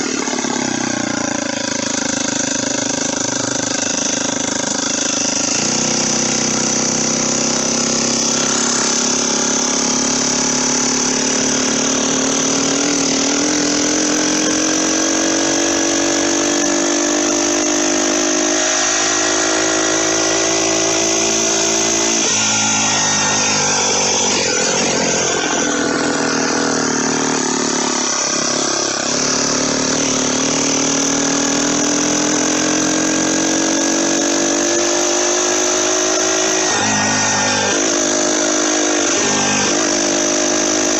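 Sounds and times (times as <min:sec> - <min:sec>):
motorized bicycle engine pulling: 0:00.0 - 0:40.9.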